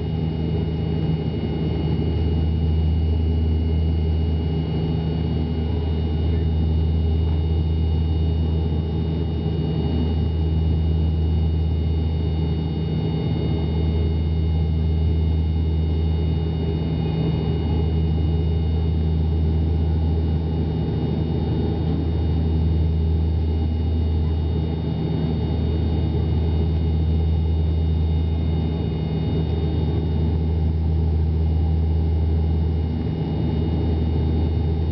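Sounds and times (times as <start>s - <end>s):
propeller drone in cabin: 0.0s - 34.9s.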